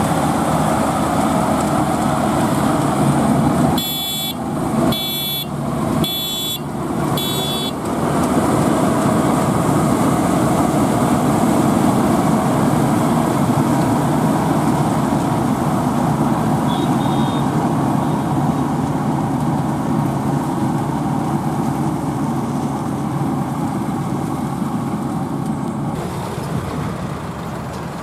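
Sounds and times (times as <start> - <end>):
diesel machinery engine running: 0.0 - 28.0.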